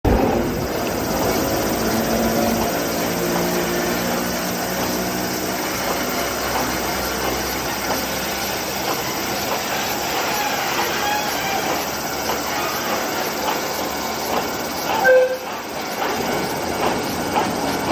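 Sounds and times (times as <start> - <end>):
freight wagons rumbling: 0.0 - 17.9
electric locomotive motor hum: 0.1 - 17.9
wheels clicking over rail joints: 0.1 - 17.9.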